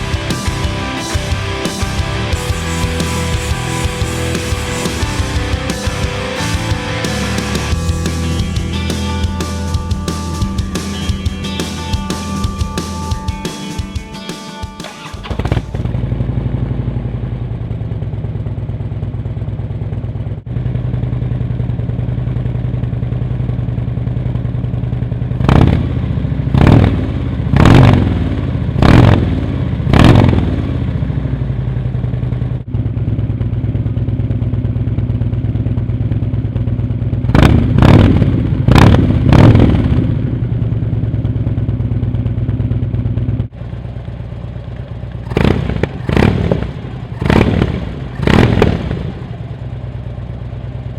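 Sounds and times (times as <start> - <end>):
engine throttle blips: 0.0 - 50.9
motorcycle engine idling: 0.0 - 50.9.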